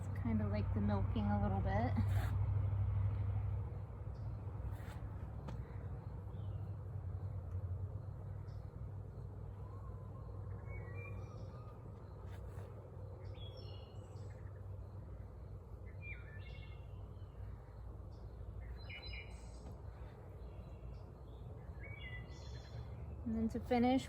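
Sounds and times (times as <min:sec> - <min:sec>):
steady low hum: 0:00.0 - 0:24.0
birds chirping: 0:04.1 - 0:24.0.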